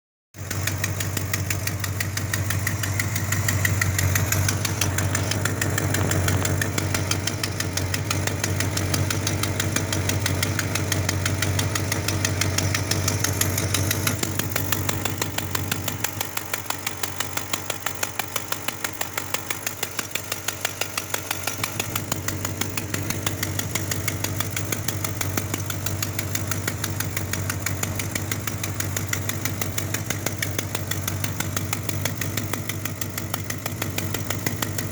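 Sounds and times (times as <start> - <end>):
engine idling with exhaust leak ticking: 0.4 - 34.9.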